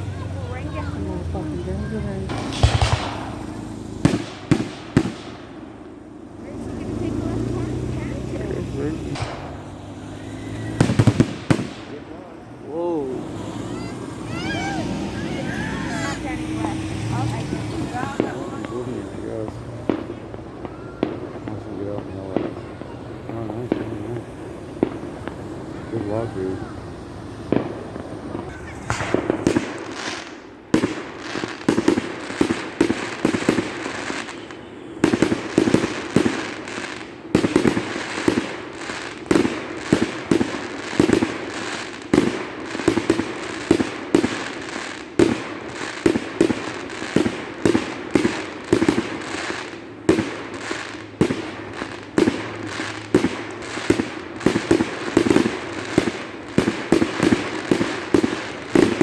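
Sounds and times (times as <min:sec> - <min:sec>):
fireworks booming: 0:00.0 - 0:59.0.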